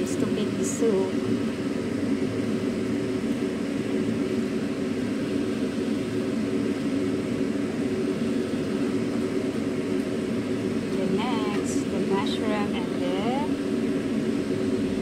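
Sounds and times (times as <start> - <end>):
kitchen background hum: 0.0 - 15.0.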